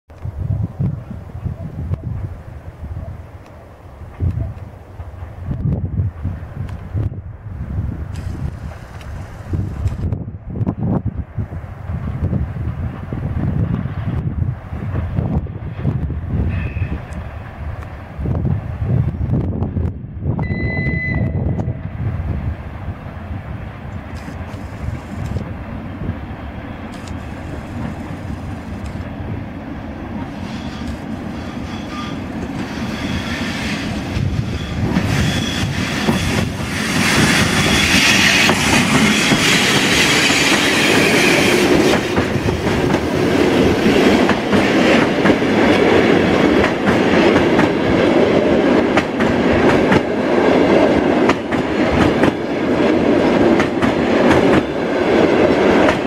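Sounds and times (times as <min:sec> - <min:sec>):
train rumble: 0:00.1 - 0:56.0.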